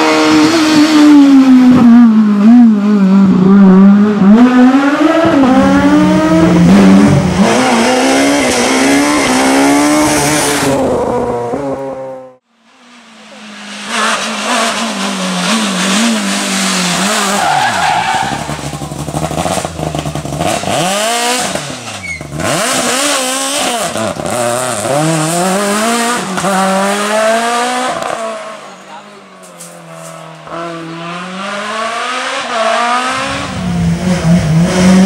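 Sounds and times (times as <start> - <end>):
rally car engine at full throttle: 0.0 - 35.0.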